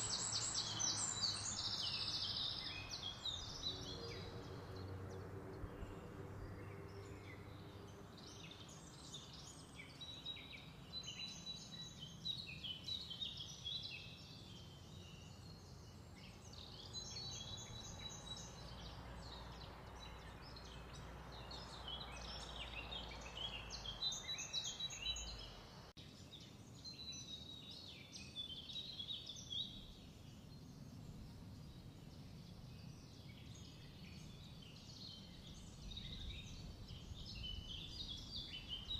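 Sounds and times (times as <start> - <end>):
faint background noise: 0.0 - 38.9
small birds chirping: 0.0 - 38.9.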